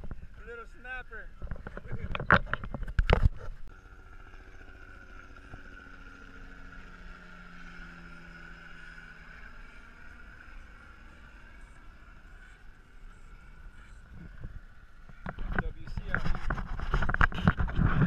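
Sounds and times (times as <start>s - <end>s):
helicopter engine and rotor: 0.0s - 17.8s.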